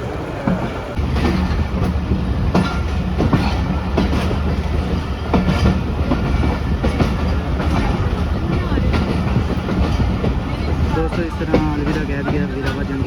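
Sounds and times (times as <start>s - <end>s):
train wheels clattering over rail joints: 0.4s - 13.0s.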